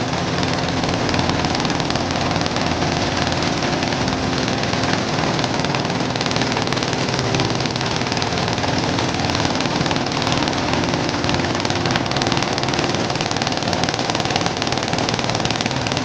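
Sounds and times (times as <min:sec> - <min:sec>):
corn sheller rattling: 0:00.0 - 0:16.0
diesel engine drone: 0:00.0 - 0:16.0.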